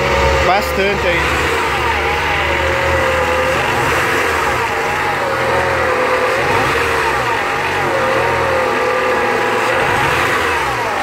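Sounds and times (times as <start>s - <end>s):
whine rising and falling: 0.0s - 10.2s
car engine idling unevenly: 0.0s - 11.0s.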